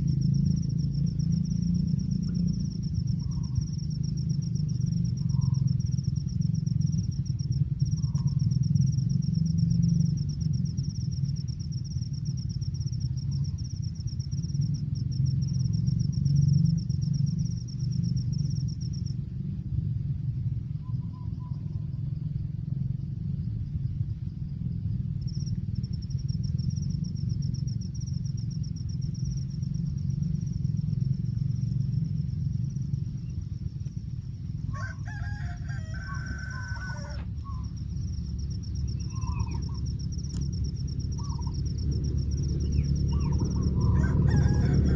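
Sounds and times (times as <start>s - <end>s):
insect pulsing trill: 0.0s - 44.9s
steady low rumble: 0.0s - 44.9s.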